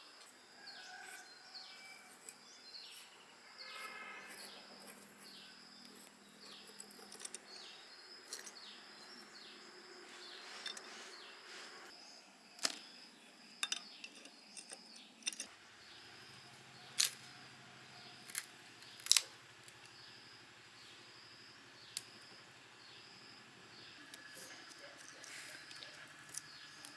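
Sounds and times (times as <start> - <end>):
insect chirps: 0.0 - 26.9.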